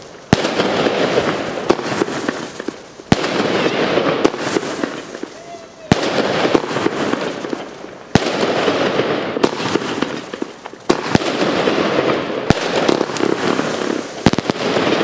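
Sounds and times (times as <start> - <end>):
firework hiss: 0.0 - 15.0
firework reports: 0.0 - 15.0.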